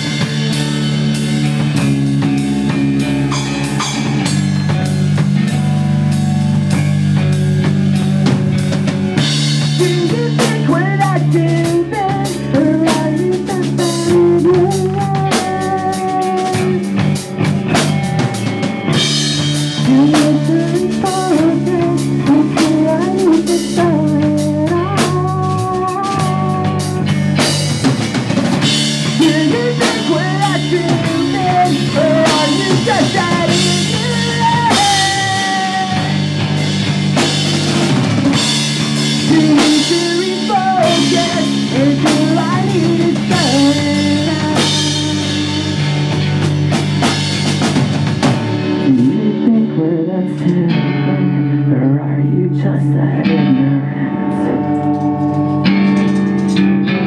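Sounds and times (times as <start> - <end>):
drum kit: 0.0 - 49.8, 54.6 - 56.8
guitar and bass chords: 0.0 - 57.0
pop punk band playing live: 0.0 - 57.0.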